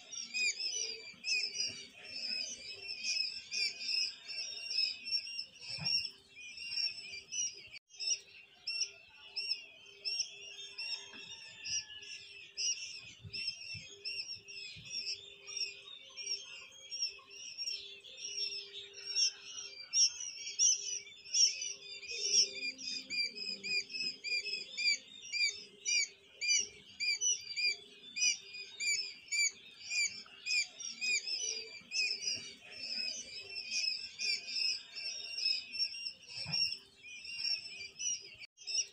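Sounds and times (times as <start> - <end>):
quail chicks peeping: 0.0 - 38.9.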